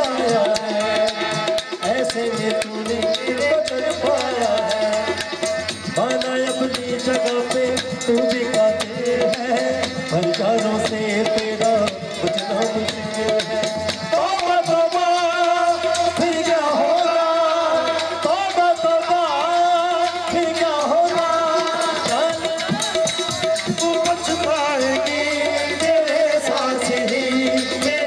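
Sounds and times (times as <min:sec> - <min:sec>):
man singing into microphone: 0:00.0 - 0:28.0
tabla strokes: 0:00.0 - 0:28.0.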